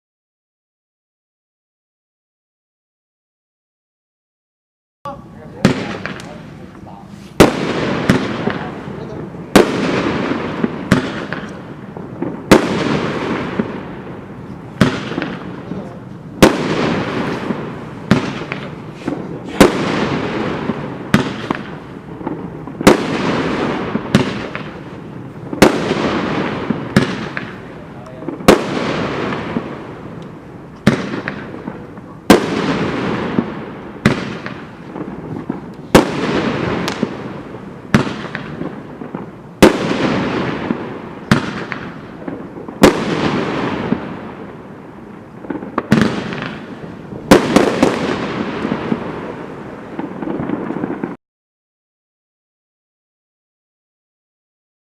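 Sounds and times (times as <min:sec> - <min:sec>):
firework shots with hissing tails: 0:05.1 - 0:51.2.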